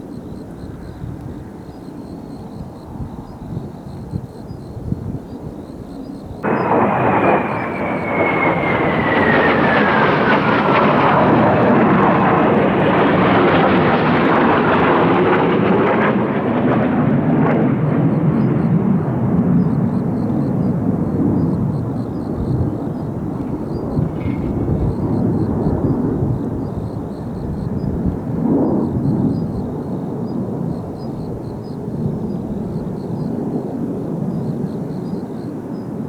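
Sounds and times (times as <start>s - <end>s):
jet engines passing overhead: 0.0s - 36.0s.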